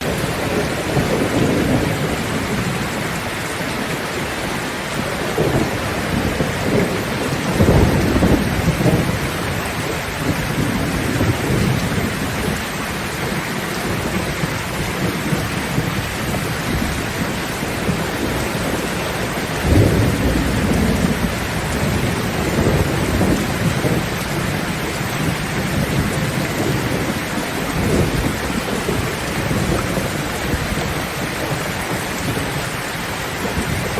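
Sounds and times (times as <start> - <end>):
rain drumming on a metal roof: 0.0 - 33.9
thunder rumbling: 0.0 - 33.9.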